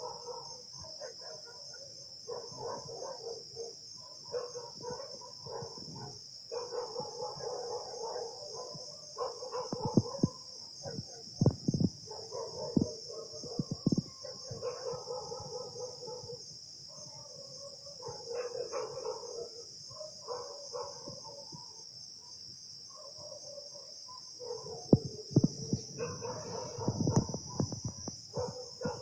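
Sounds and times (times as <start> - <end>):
many dogs barking: 0.0 - 11.3, 12.1 - 27.7, 28.3 - 29.0
insects chirring: 0.0 - 29.0.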